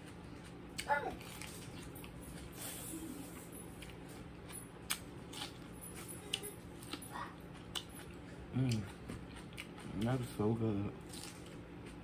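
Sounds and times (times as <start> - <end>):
biting and chewing food: 0.0 - 2.7, 3.3 - 12.0
faint steady hum: 0.0 - 12.0.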